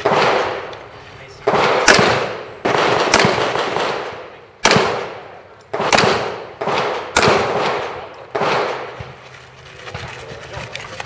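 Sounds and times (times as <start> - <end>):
pistol shots echoing: 0.0 - 9.0.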